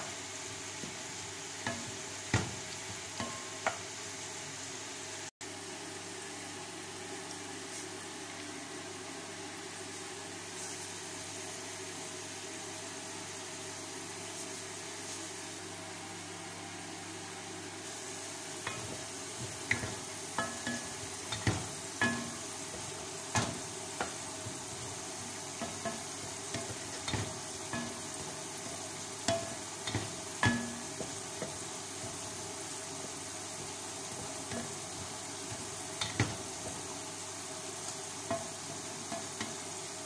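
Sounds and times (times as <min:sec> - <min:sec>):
rice frying hiss: 0:00.0 - 0:40.0.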